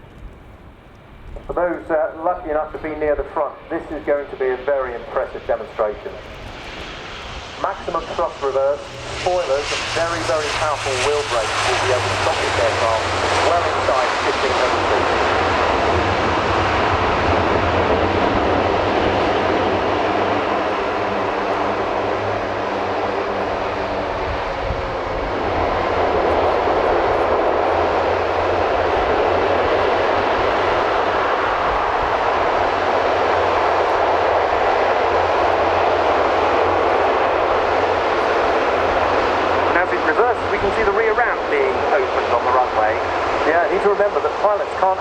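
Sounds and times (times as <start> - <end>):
loud propeller and engine noise: 0.0 - 45.0.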